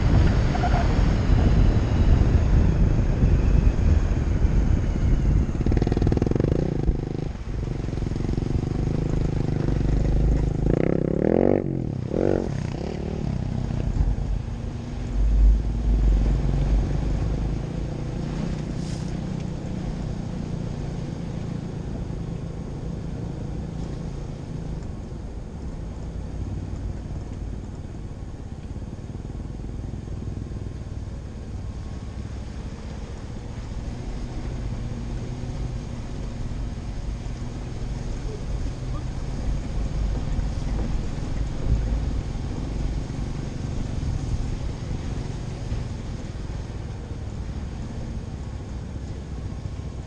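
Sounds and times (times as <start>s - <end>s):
vehicle engine and tyre rumble: 0.0s - 50.0s.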